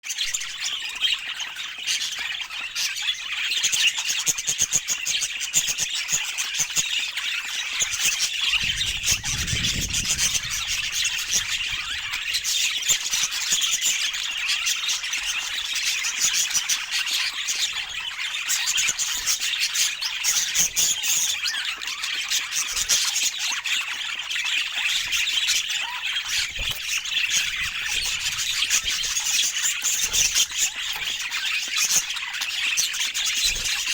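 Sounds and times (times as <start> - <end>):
budgerigars chirping and squawking: 0.1 - 33.9.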